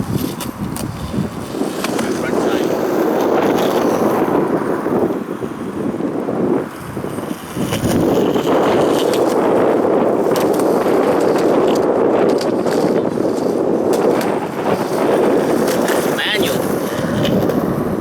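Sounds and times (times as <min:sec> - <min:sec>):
skateboard wheels rolling on ramp: 0:00.0 - 0:18.0.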